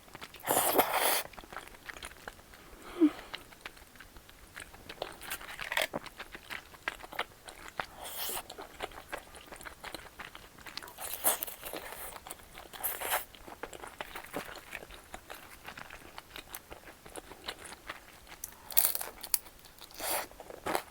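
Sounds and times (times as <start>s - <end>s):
person chewing with crunches: 0.1s - 20.9s.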